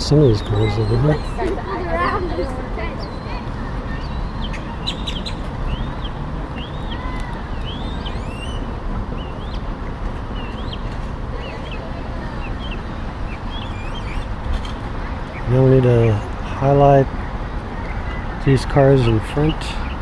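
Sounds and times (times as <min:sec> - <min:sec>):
birds chirping: 0:00.0 - 0:20.0
low outdoor rumble: 0:00.0 - 0:20.0.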